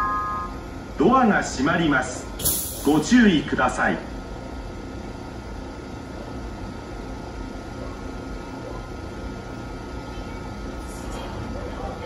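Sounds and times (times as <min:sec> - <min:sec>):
train hum and fan noise: 0:00.0 - 0:12.0.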